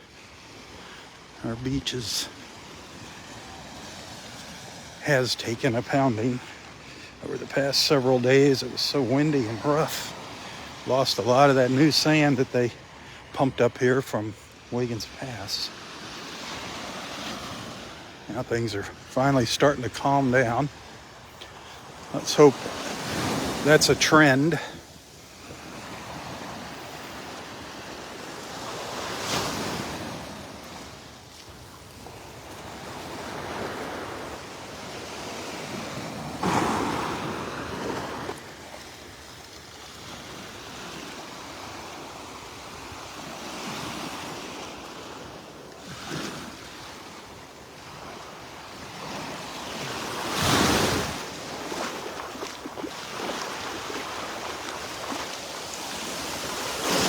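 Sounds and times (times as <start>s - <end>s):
surf washing on beach: 0.0s - 57.0s.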